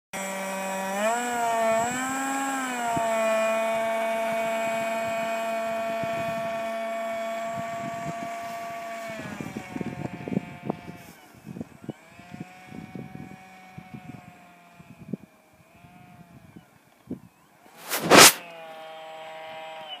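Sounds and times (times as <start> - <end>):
model jet motor whining: 0.2 - 16.7.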